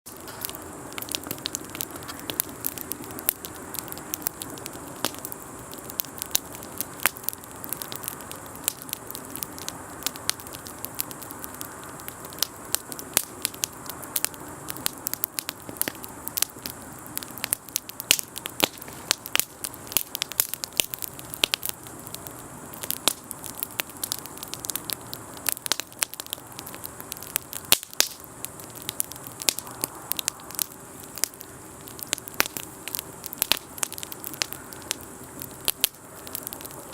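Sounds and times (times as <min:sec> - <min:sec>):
campfire crackling and popping: 0:00.1 - 0:36.9.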